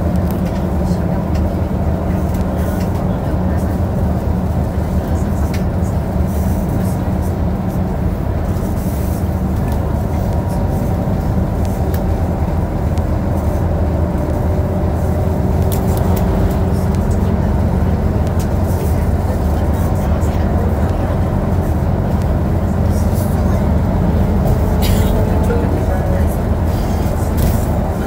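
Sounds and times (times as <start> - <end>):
bus engine hum: 0.0 - 28.0
road and tyre noise: 0.0 - 28.0.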